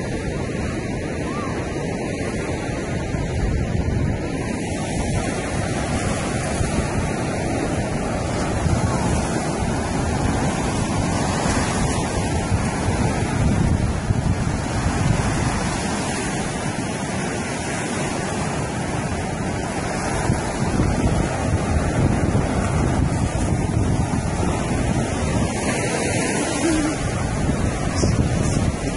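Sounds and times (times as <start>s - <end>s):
surf washing onto beach: 0.0s - 28.9s
wind buffeting microphone: 0.0s - 28.9s.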